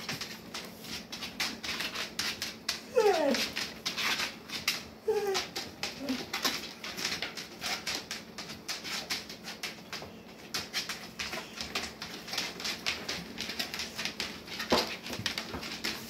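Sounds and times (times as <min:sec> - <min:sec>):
dog claws clicking on tile: 0:00.0 - 0:16.0.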